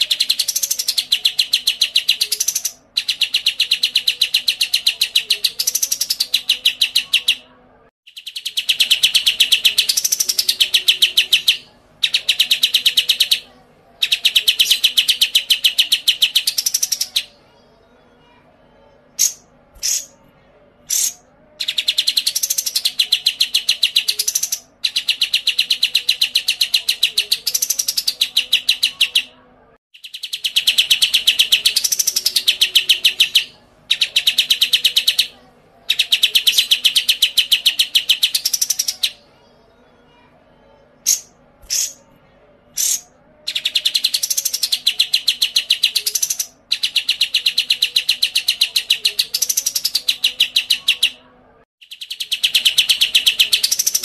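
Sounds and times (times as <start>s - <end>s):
sharp bird chirps: 0.0s - 7.4s, 8.1s - 17.4s, 19.2s - 20.2s, 20.9s - 39.2s, 41.0s - 42.1s, 42.8s - 51.2s, 51.8s - 54.0s.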